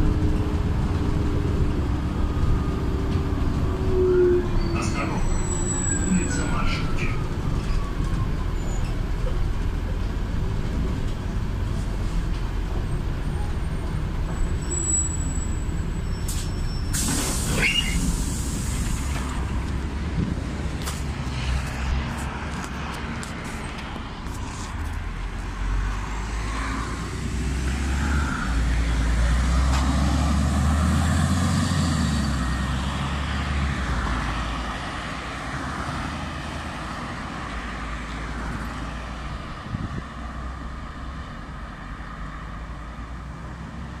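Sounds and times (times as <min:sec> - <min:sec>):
bus engine drone: 0:00.0 - 0:44.0
passing road traffic: 0:00.0 - 0:44.0.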